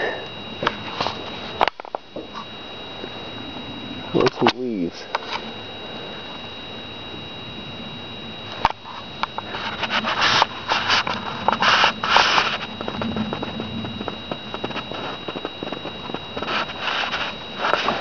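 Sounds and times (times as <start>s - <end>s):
crackling and rustling leaves: 0.0s - 18.0s.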